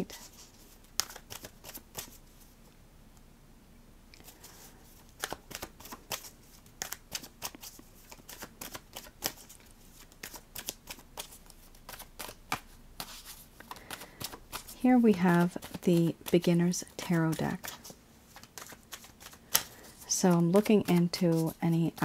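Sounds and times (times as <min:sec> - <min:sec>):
cards shuffled by hand: 0:00.0 - 0:02.5, 0:04.2 - 0:22.0.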